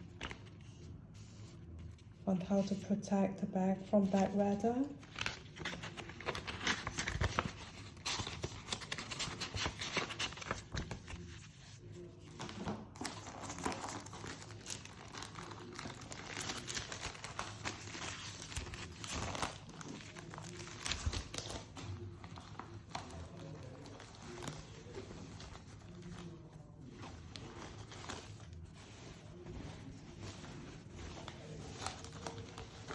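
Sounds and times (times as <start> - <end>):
paper packaging crinkling: 3.9 - 32.9.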